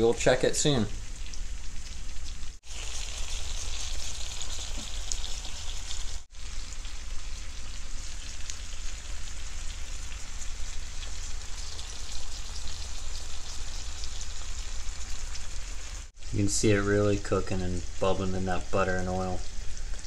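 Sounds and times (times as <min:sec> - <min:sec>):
fish frying in a pan: 0:00.0 - 0:20.0.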